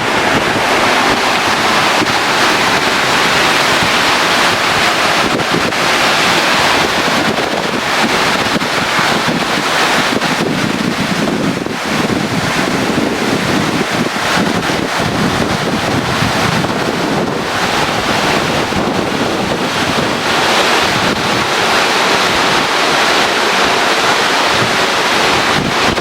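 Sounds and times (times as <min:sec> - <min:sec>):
water rushing over a weir: 0:00.0 - 0:26.0.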